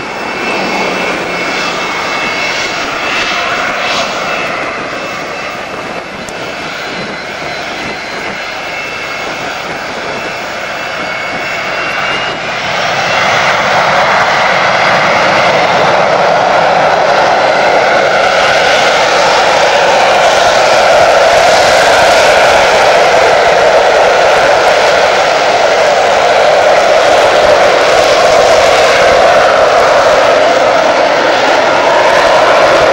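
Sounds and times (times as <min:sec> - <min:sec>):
aircraft engine with high whine: 0:00.0 - 0:32.9.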